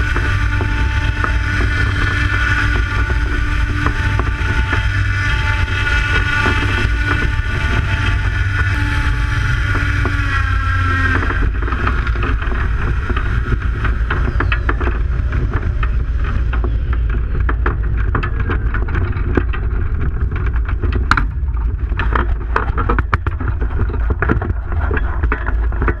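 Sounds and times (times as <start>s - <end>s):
electric motor and propeller whine: 0.0s - 26.0s
knocks and clicks: 0.0s - 26.0s
wind buffeting microphone: 0.0s - 26.0s.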